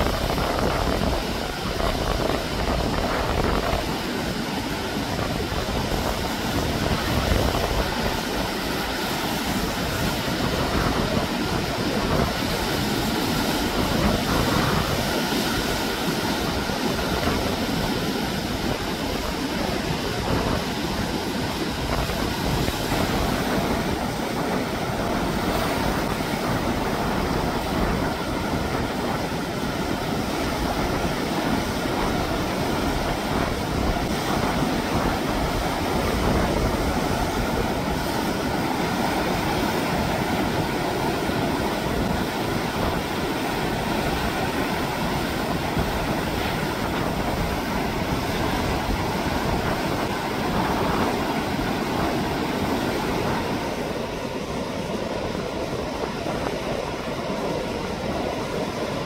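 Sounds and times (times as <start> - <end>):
heavy surf breaking over rocks: 0.0 - 59.0.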